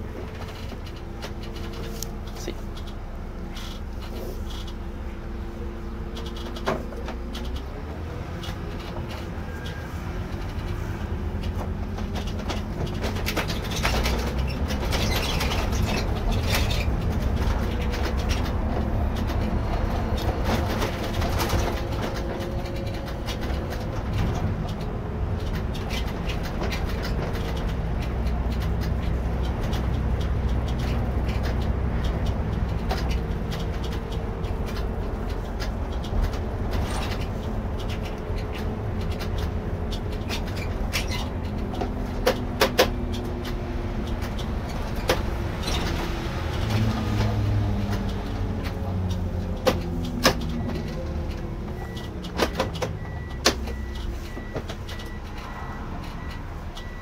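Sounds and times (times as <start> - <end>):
diesel engine running: 0.0 - 57.0
clicks and rattles: 8.3 - 57.0.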